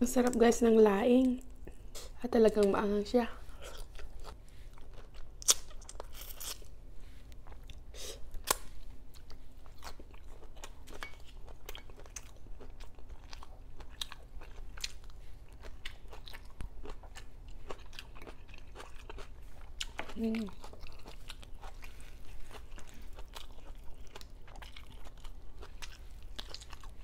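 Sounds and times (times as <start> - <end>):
person chewing crunchy food: 3.5 - 27.0.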